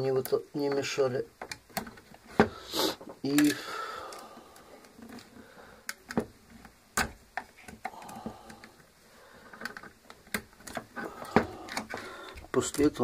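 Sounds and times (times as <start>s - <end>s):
small clicks of plastic and metal parts: 0.1s - 2.2s, 3.3s - 13.0s.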